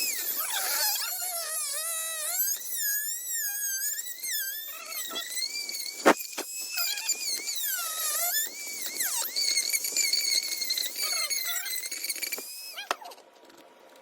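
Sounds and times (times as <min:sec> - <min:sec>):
rotary tool whining cutting plastic: 0:00.0 - 0:14.0.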